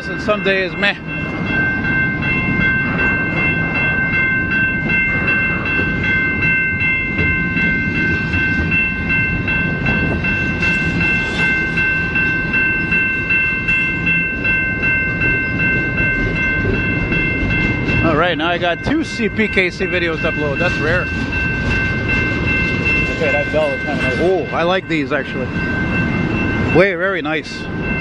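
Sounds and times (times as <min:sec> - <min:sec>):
high-pitched ringing tone: 0:00.0 - 0:28.0
train wheels rumbling and clacking: 0:00.0 - 0:28.0.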